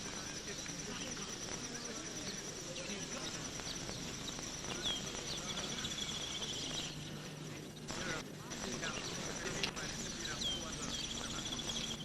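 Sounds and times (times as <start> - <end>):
bird chirps: 0.0 - 12.0
insect trill: 0.0 - 12.0.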